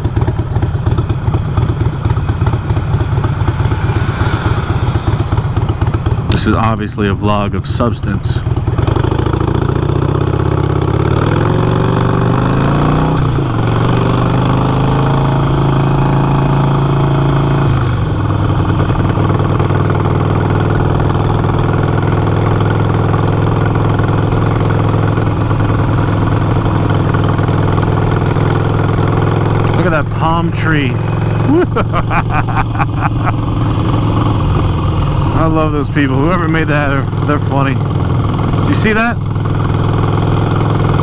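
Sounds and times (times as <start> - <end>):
motorcycle engine pulling away: 0.0 - 6.5, 8.4 - 41.0.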